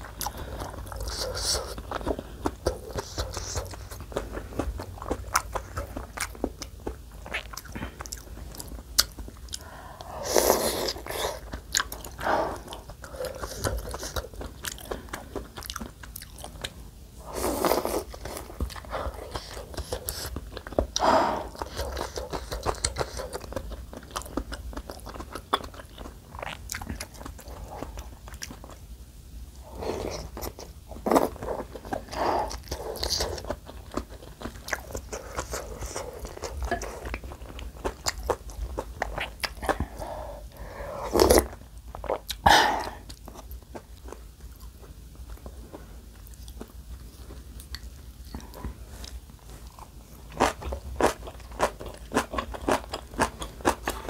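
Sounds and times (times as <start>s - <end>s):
close chewing sounds: 0.0s - 54.0s.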